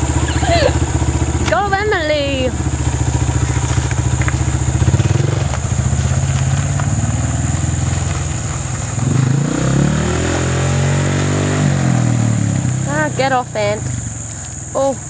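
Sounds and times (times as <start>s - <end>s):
dirt bike engine revving: 0.0s - 14.7s.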